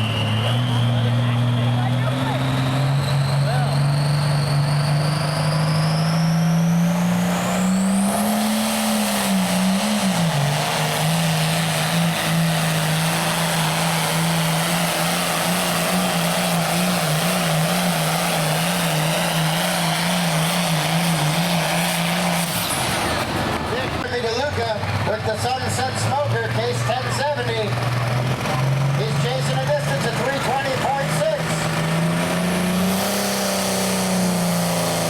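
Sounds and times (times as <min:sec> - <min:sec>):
diesel tractor engine running hard: 0:00.0 - 0:35.0.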